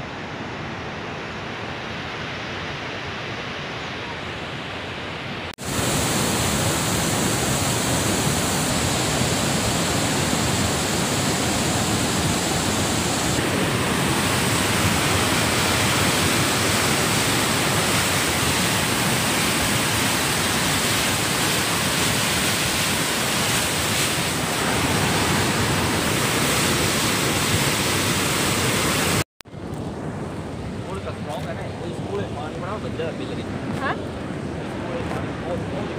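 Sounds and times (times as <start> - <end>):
river torrent roaring over rocks: 4.0 - 35.9.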